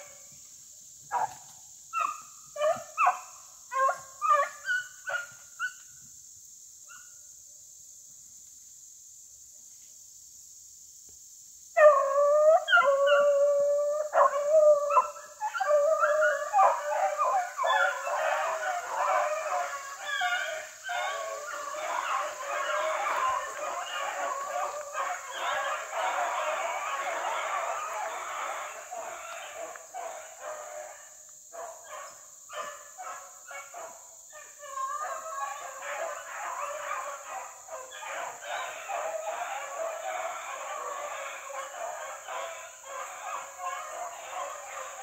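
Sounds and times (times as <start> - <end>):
hounds baying in chorus: 2.0 - 5.8, 11.8 - 45.0
hounds yelping: 2.0 - 5.8, 11.8 - 31.0, 31.6 - 45.0.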